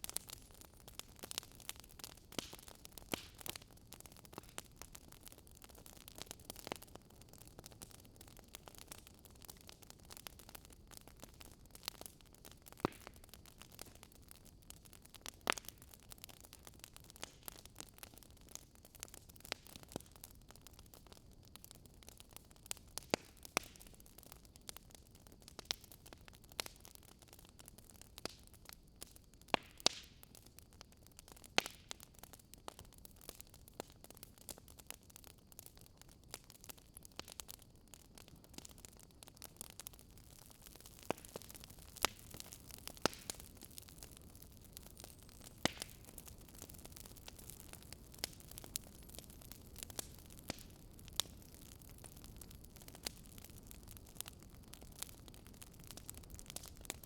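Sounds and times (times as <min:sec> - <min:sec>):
faint steady hiss: 0:00.0 - 0:57.0
fire crackling and popping: 0:00.0 - 0:57.0.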